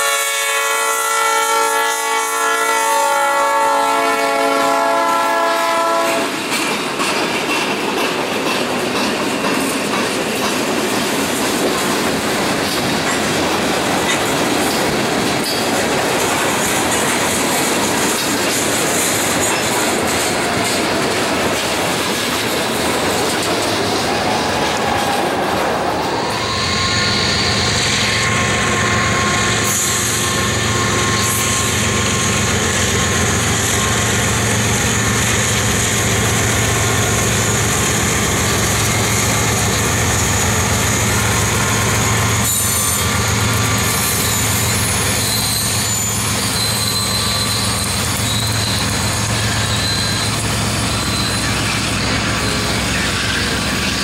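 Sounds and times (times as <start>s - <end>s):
diesel locomotive engine hum: 0.0s - 54.0s
train wheels clattering on rails: 4.6s - 54.0s.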